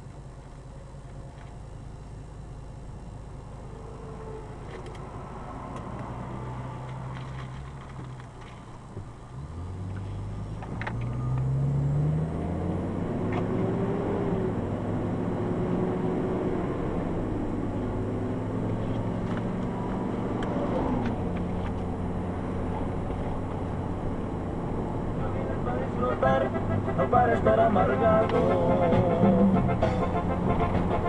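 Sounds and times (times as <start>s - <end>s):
road noise: 0.0s - 31.0s
vehicle engine accelerating: 3.4s - 8.6s, 9.2s - 31.0s.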